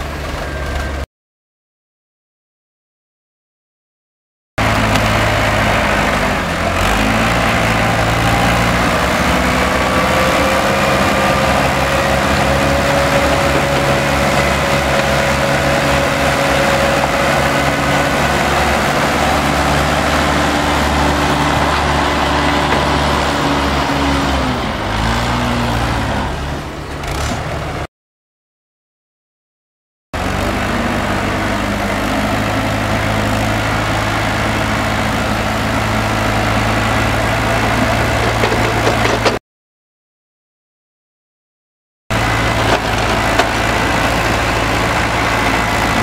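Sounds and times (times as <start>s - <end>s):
bulldozer diesel engine under load: 0.0s - 1.1s, 4.6s - 27.9s, 30.2s - 39.4s, 42.1s - 46.0s.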